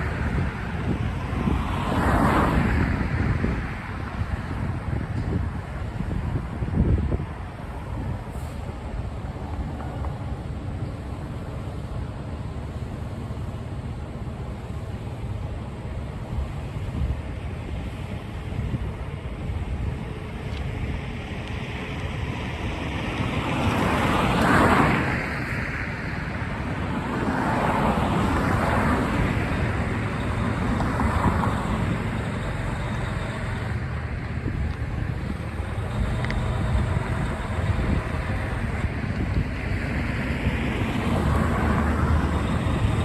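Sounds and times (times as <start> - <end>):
wind buffeting microphone: 0.0 - 11.1, 16.0 - 43.0
road traffic rumble: 0.0 - 43.0
vehicles passing: 0.0 - 43.0.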